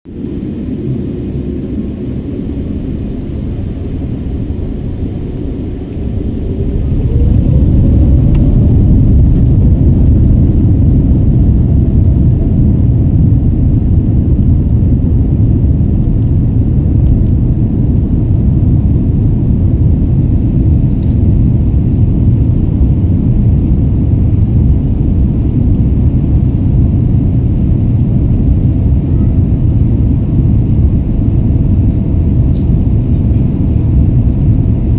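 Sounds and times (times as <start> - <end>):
deep jet engine rumble: 0.0 - 34.9
jet engines spooling up: 0.1 - 34.9.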